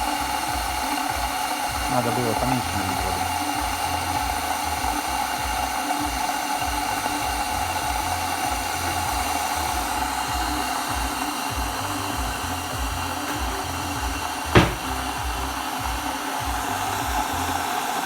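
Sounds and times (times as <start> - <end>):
electric kettle heating water: 0.0 - 18.0.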